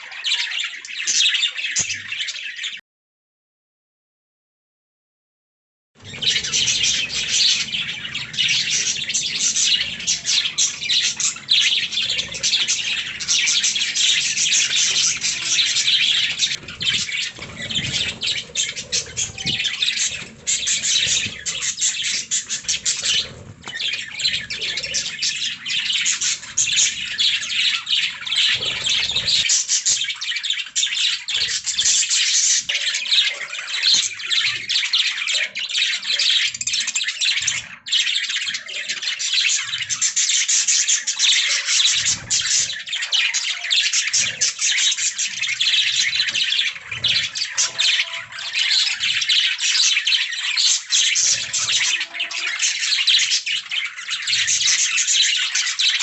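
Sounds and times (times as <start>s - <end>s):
budgerigars chirping: 6.0s - 56.0s.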